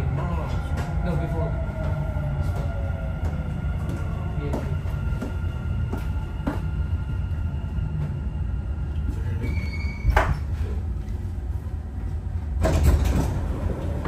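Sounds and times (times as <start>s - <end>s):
train carriage low rumble: 0.0s - 14.0s.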